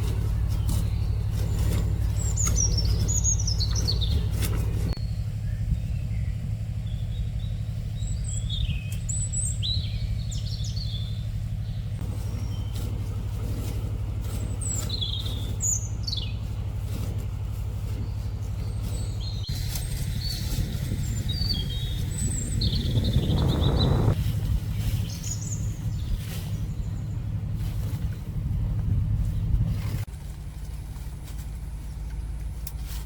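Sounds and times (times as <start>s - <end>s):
birds chirping: 0.0s - 30.0s
low motor drone: 0.0s - 33.0s.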